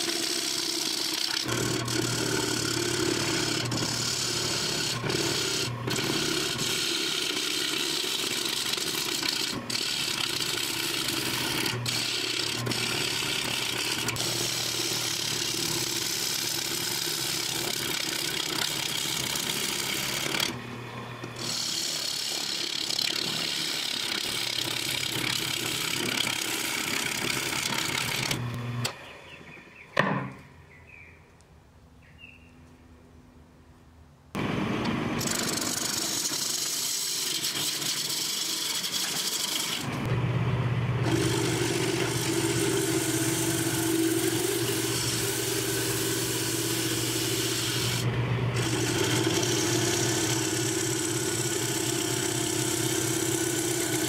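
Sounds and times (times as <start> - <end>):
tool scraping spinning wood: 0.0 - 28.9, 34.4 - 40.2, 41.0 - 54.0
lathe motor hum: 0.0 - 29.0, 34.4 - 54.0.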